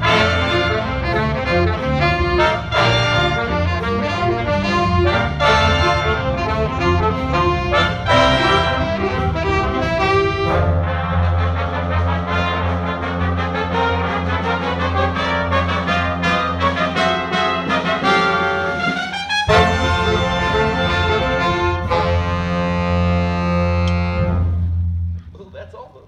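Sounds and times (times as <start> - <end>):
electric bass: 0.0 - 16.5, 19.5 - 25.5
jazz big band playing: 0.0 - 25.2.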